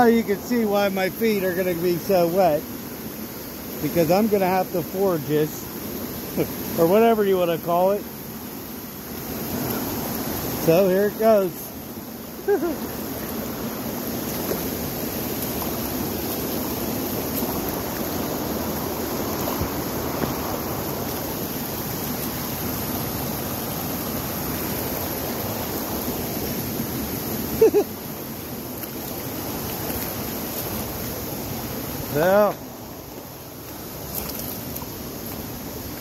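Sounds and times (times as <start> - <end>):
stream rushing: 0.0 - 36.0.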